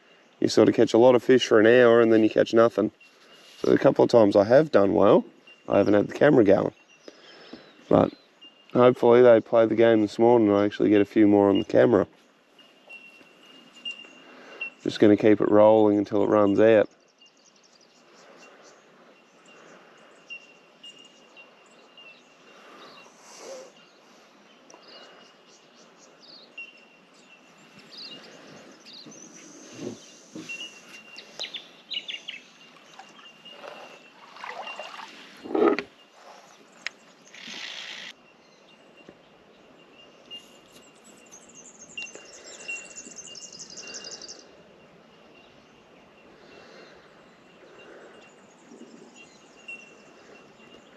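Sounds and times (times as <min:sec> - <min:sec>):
birds calling: 0:00.0 - 0:50.9.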